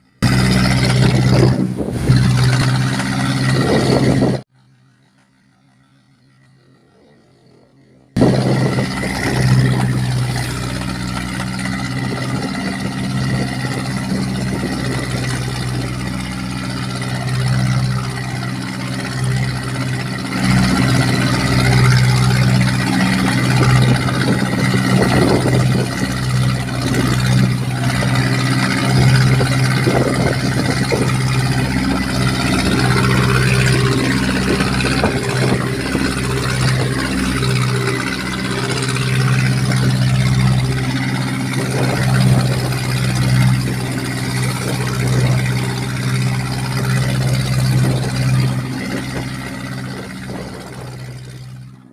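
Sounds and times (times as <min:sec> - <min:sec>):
diesel boat engine running: 0:00.0 - 0:51.9.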